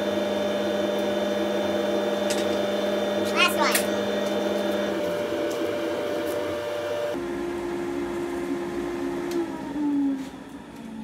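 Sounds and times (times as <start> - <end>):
motor and blower whirring: 0.0 - 11.0.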